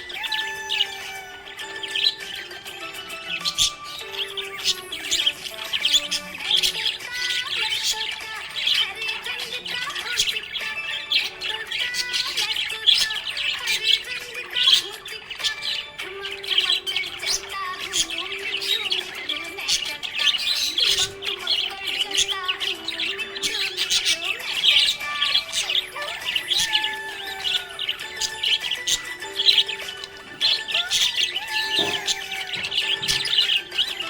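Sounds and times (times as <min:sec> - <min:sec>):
budgerigars chirping and warbling: 0:00.0 - 0:34.0.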